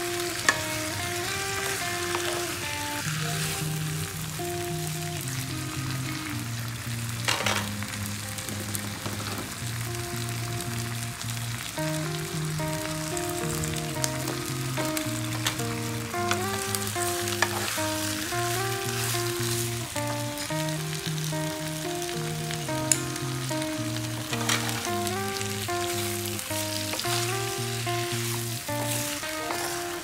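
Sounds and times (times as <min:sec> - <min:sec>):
background music with bass: 0:00.0 - 0:30.0
vegetables sizzling in a frying pan: 0:00.0 - 0:30.0.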